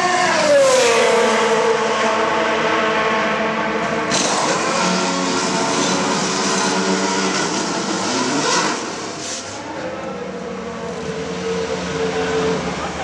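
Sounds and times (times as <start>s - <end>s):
race car engine running: 1.2s - 13.0s.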